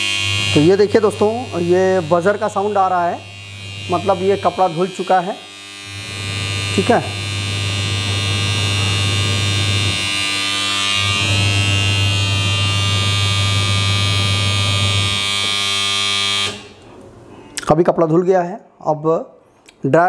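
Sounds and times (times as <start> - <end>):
washing machine buzzer: 0.0 - 16.8.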